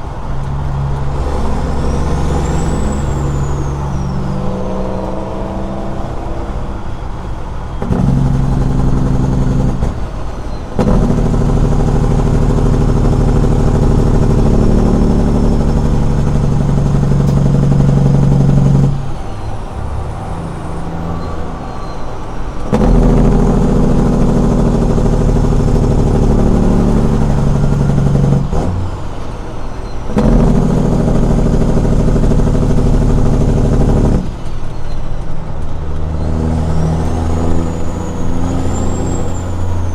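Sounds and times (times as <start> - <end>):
diesel truck engine running loud: 0.0 - 39.9.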